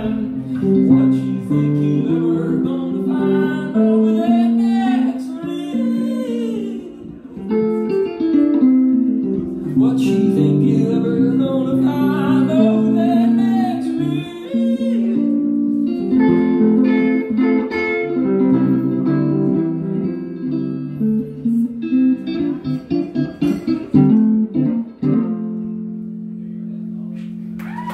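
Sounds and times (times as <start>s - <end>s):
guitar playing: 0.0s - 27.9s.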